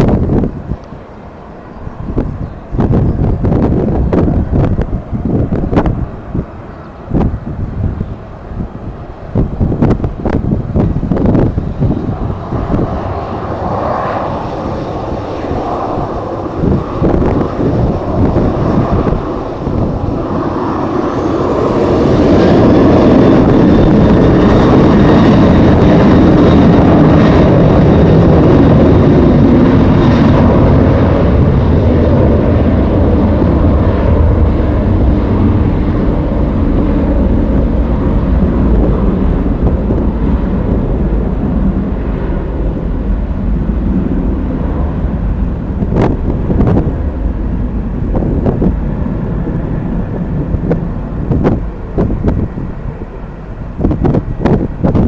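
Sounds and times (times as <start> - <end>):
jet airliner engines: 0.0 - 55.0
wind buffeting microphone: 0.0 - 55.0.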